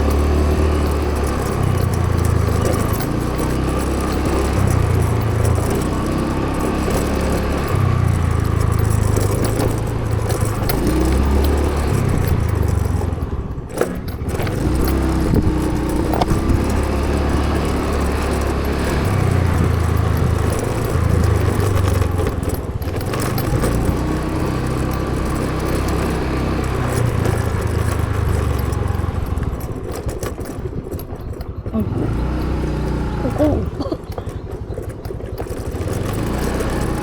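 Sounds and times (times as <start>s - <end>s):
vehicle rumble with road noise: 0.0s - 37.0s.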